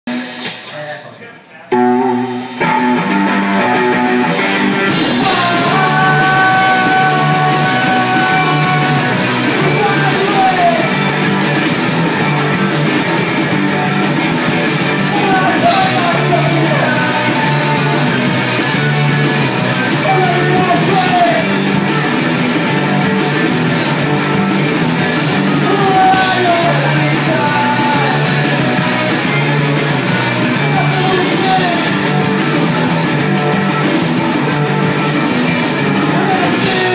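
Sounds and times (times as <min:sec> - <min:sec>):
live rock band playing: 0:00.1 - 0:36.9.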